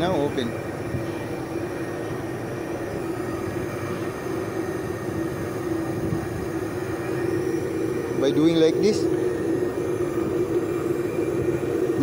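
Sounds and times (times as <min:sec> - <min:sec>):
machine droning: 0:00.0 - 0:12.0.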